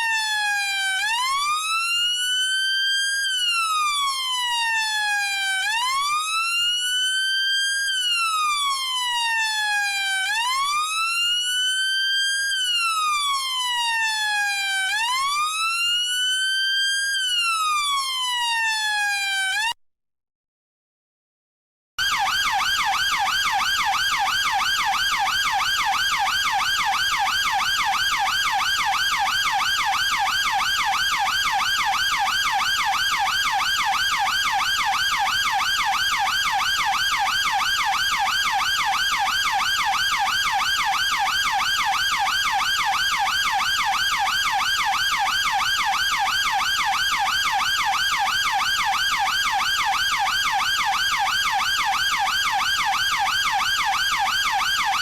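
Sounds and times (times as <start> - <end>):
police siren yelp wail: 0.0 - 19.8, 22.0 - 55.0.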